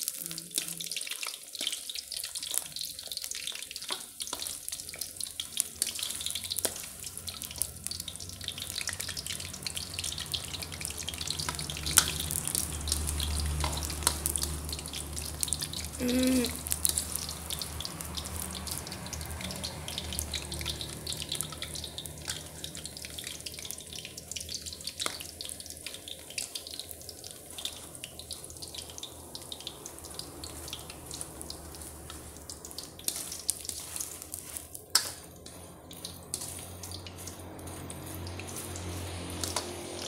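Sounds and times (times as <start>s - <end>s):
oil sizzling in a wok: 0.0s - 40.0s.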